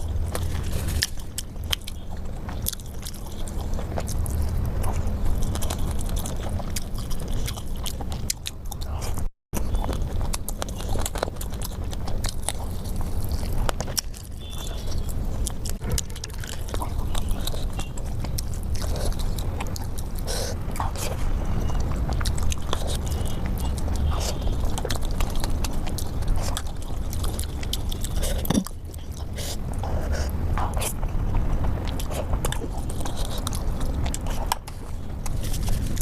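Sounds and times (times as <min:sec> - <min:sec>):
chewing and biting food: 0:00.0 - 0:36.0
steady low rumble: 0:00.0 - 0:36.0.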